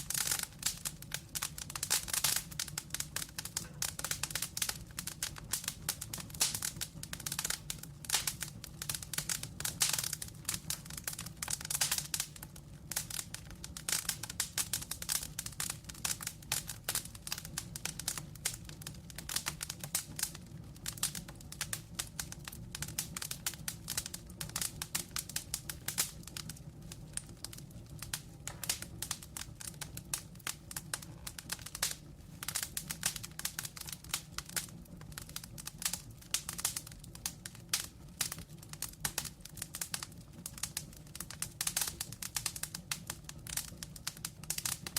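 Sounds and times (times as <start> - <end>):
low rumble of flame: 0.0 - 44.9
wood fire crackling and popping: 0.0 - 44.9.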